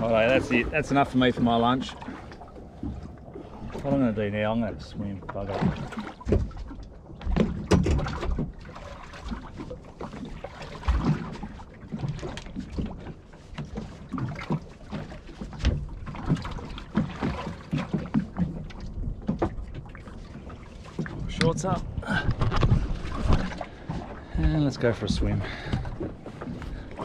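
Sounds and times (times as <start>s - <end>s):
water slapping a hull: 0.0s - 27.0s
knocks and thumps on a boat hull: 5.2s - 27.0s.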